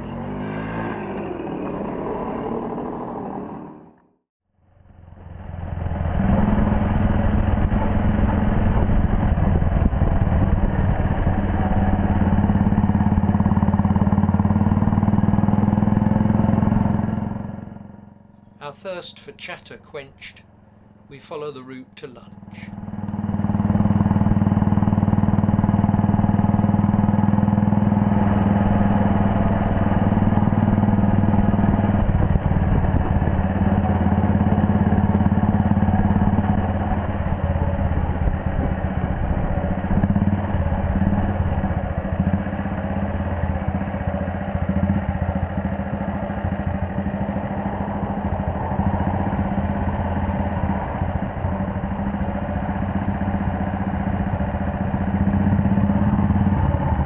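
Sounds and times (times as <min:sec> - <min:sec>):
motorcycle engine running: 0:00.0 - 0:04.0, 0:04.6 - 0:18.6, 0:20.4 - 0:21.1, 0:22.2 - 0:57.0.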